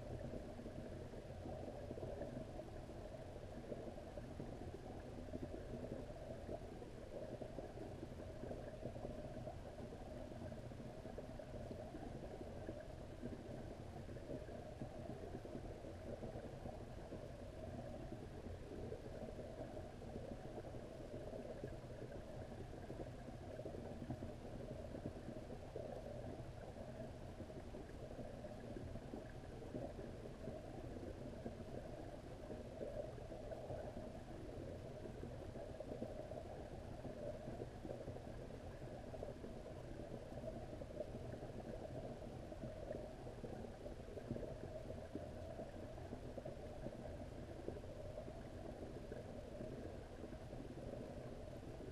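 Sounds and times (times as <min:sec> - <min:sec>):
muffled underwater rumble: 0:00.0 - 0:51.9.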